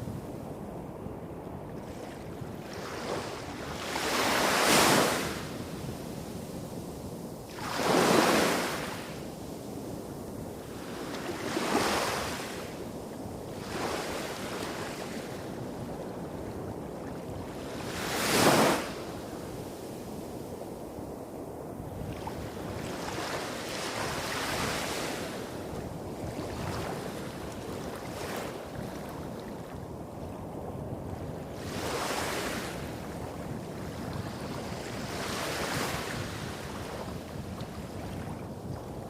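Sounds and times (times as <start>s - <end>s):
small waves washing on shore: 1.6s - 21.0s, 21.8s - 39.0s.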